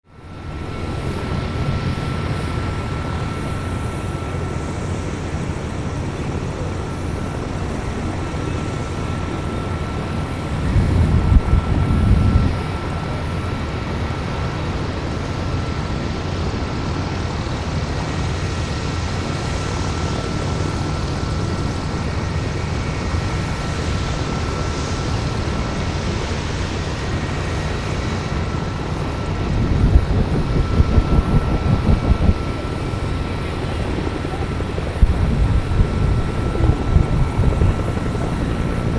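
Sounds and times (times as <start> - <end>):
helicopter rotor and turbine running: 0.0 - 38.9.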